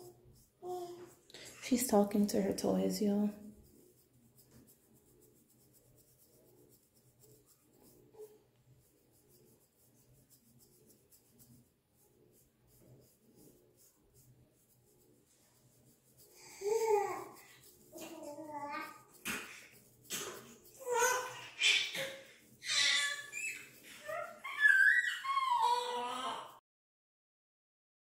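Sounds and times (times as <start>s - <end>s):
comb scratching scalp: 0.0s - 26.3s.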